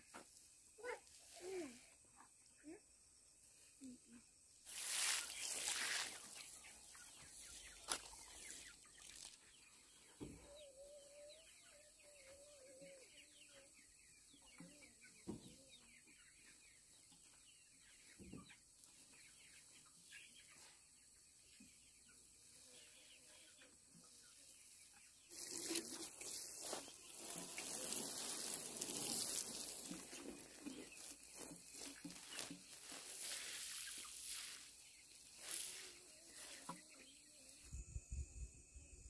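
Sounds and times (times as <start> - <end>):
chickens clucking: 4.9 - 38.1.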